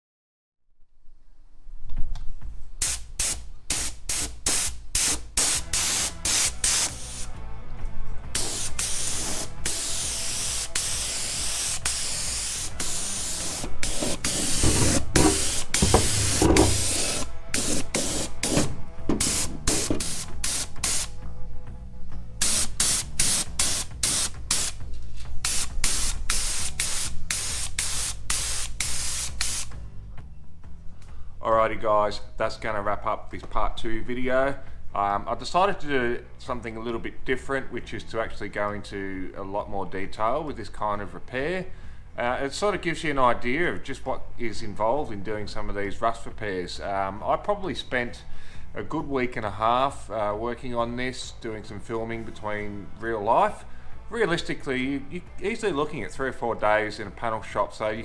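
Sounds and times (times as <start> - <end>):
background music: 2.3 - 58.0.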